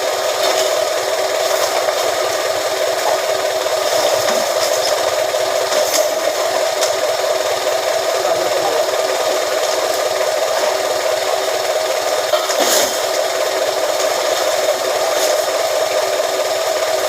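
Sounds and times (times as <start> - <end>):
press machine humming: 0.0 - 17.0.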